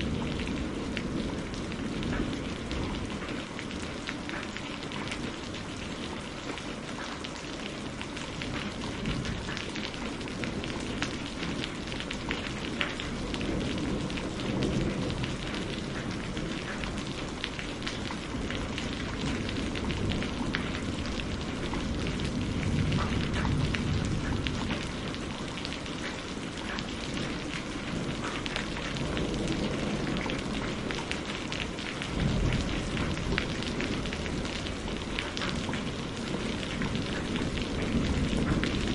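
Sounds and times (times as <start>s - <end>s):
low thunder rumbles: 0.0s - 38.9s
steady rain: 0.0s - 38.9s.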